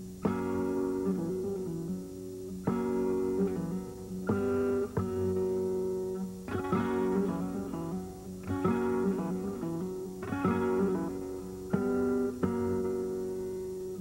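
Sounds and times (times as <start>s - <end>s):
flamenco guitar playing: 0.0s - 14.0s.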